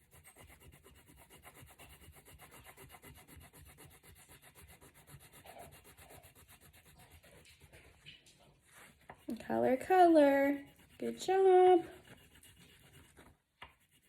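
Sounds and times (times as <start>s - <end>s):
crayon scribbling on paper: 0.0s - 8.0s, 8.6s - 14.0s.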